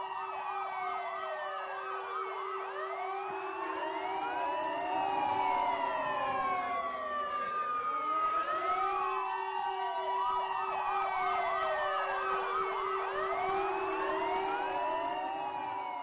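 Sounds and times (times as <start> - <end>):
sirens wailing: 0.0 - 16.0.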